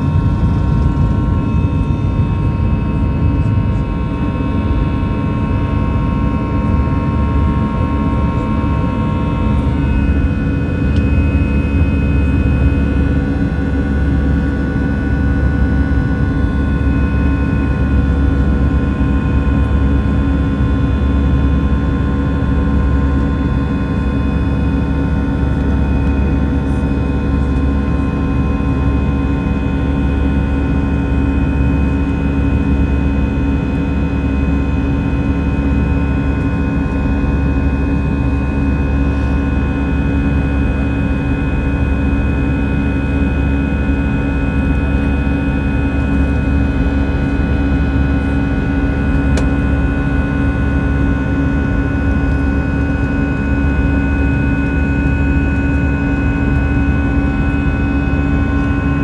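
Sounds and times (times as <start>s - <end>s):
airliner engines droning: 0.0s - 59.0s.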